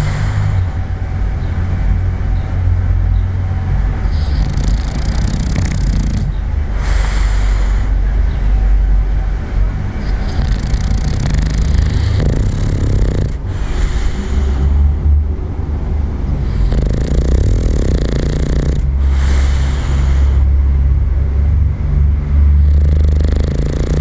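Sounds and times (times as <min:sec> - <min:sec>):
dog snoring deeply: 0:00.0 - 0:08.7, 0:09.5 - 0:24.0.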